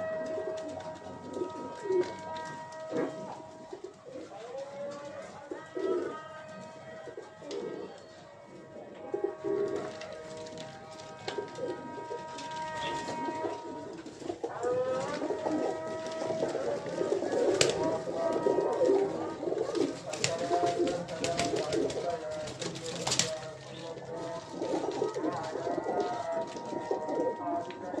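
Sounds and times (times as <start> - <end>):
pigeons cooing: 0.0 - 6.3, 7.0 - 28.0
background music with held notes: 0.0 - 22.5.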